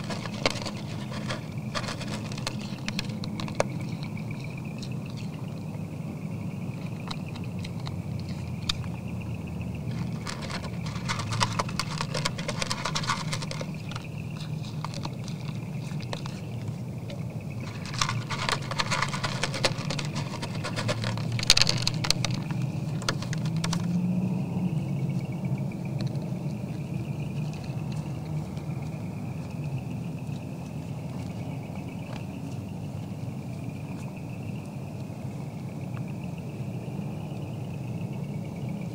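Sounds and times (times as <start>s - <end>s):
deer crunching feed: 0.0s - 36.1s.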